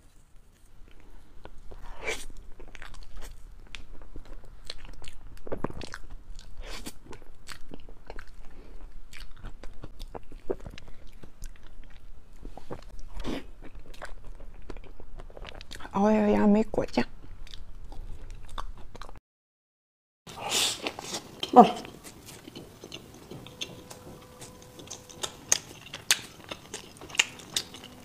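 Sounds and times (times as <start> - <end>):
crunchy chewing: 0.0 - 16.0, 17.1 - 19.2, 20.3 - 28.0.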